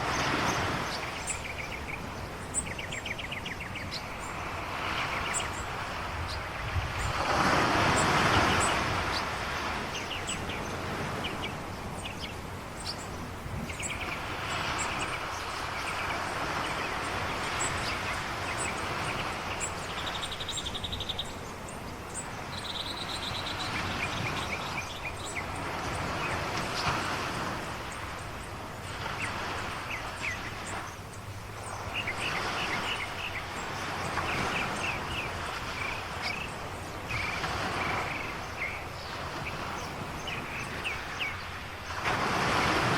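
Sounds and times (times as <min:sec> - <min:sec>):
birds chirping: 0:00.0 - 0:42.9
ocean waves washing: 0:00.0 - 0:42.9.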